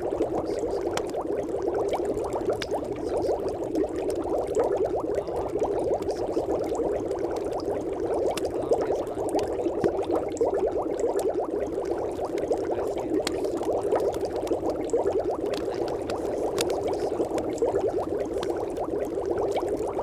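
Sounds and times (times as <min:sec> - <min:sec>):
liquid bubbling: 0:00.0 - 0:20.0.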